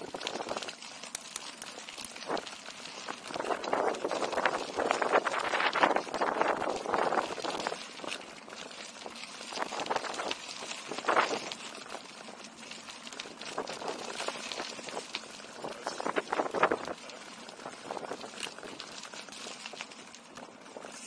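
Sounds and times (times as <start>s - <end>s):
footsteps crunching on gravel: 0.0s - 21.0s.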